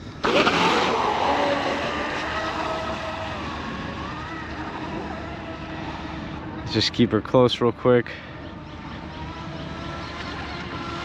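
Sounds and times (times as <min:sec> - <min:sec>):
electric motor whining: 0:00.0 - 0:06.7, 0:08.4 - 0:11.0.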